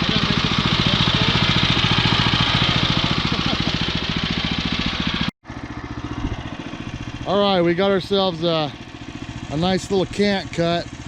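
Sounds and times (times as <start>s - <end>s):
small gas engine pulsing: 0.0s - 11.0s.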